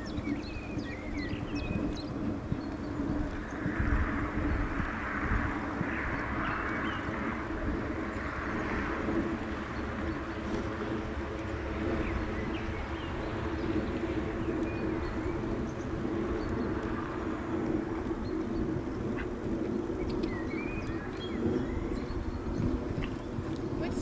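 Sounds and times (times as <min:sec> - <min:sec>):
steady outdoor rumble: 0:00.0 - 0:24.0.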